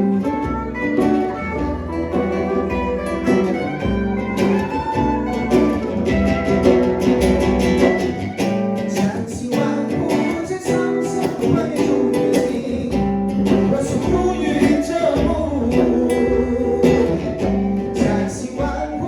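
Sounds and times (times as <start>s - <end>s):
acoustic and electric guitars: 0.0s - 19.0s.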